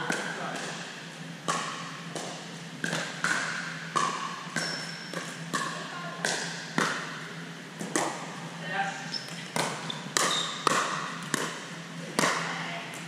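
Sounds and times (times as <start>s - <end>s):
ball bouncing on hard court: 0.0s - 8.4s, 9.1s - 13.0s.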